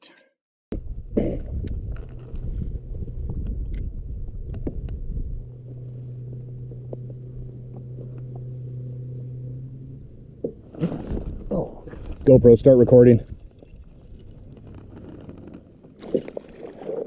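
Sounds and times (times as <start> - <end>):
boat motor humming: 0.7 - 17.0.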